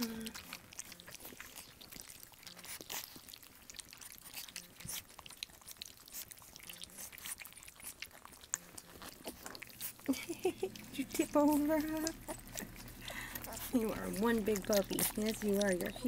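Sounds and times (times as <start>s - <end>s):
puppies lapping wet food: 0.0s - 16.0s.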